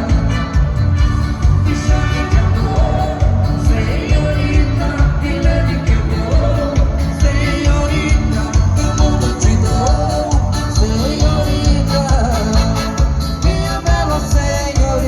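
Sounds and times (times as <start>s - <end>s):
live dance band playing: 0.0s - 15.0s.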